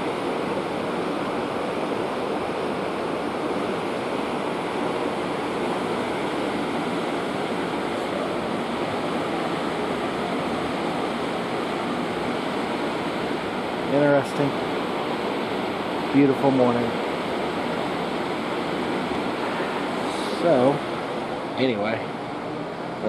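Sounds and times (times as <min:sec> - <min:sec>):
seawater churning in ship wake: 0:00.0 - 0:23.0
wind: 0:00.0 - 0:23.0.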